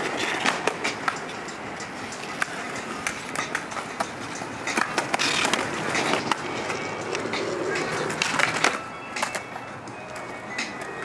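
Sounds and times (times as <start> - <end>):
skateboard clacking on ground: 0.0 - 11.0
skateboard wheels rolling on concrete: 0.0 - 11.0.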